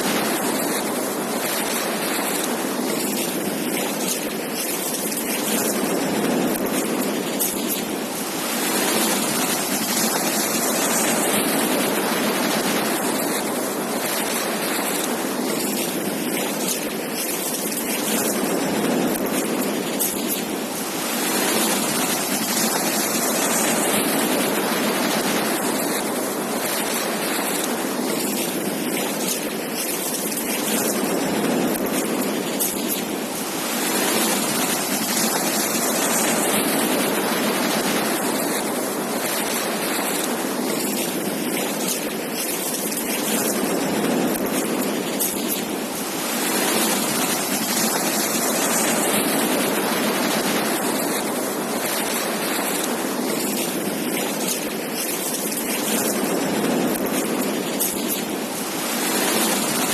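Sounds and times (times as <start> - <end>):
waves breaking on beach: 0.0 - 59.9.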